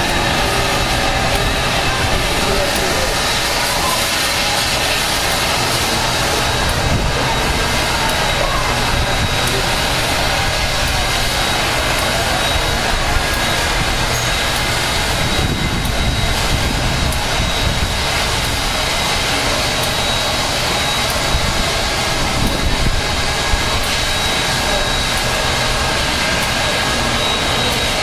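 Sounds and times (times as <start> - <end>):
faint high whine: 0.0 - 28.0
steam locomotive hissing: 0.0 - 28.0.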